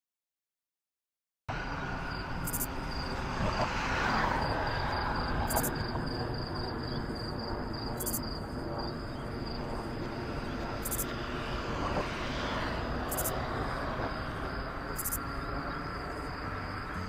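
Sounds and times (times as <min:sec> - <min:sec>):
airplane droning overhead: 0:01.5 - 0:17.0
insect chirping in high pulses: 0:01.6 - 0:17.0.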